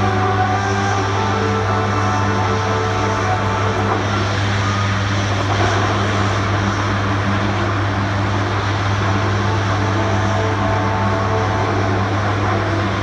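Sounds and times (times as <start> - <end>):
propeller engines droning: 0.0 - 13.0.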